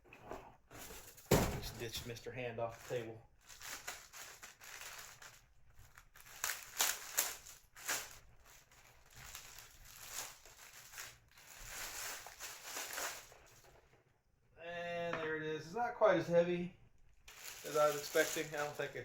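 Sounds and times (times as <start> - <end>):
box packaging rustling and scraping: 0.2 - 13.9, 17.3 - 19.0.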